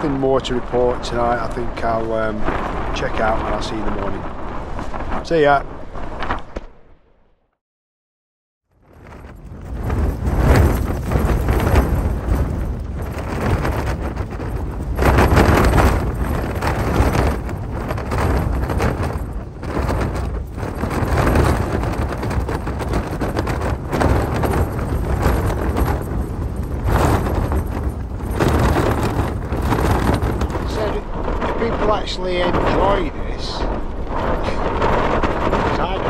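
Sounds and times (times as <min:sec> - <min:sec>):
tent fabric flapping in wind: 0:00.0 - 0:06.9, 0:08.6 - 0:36.0.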